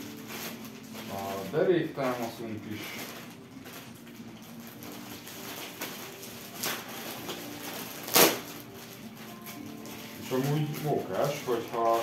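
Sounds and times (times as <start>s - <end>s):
quiet background music: 0.0s - 12.0s
rustling of chair parts: 0.0s - 12.0s.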